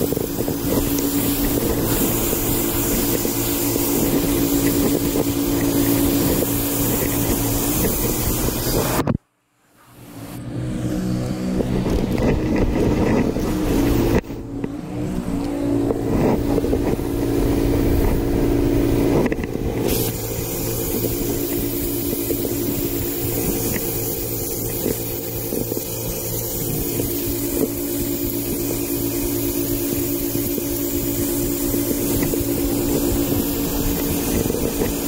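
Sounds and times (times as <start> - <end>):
pressure washer engine hum: 0.0 - 9.1, 9.8 - 35.0.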